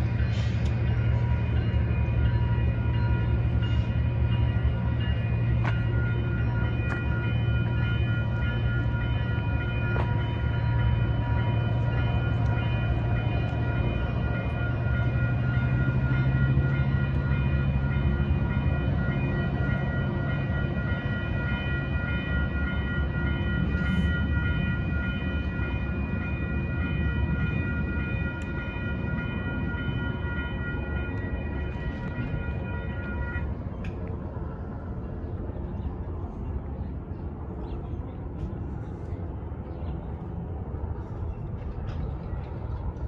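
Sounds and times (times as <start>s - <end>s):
crossing warning bell ringing: 0.0s - 34.6s
diesel train rumble: 0.0s - 43.0s.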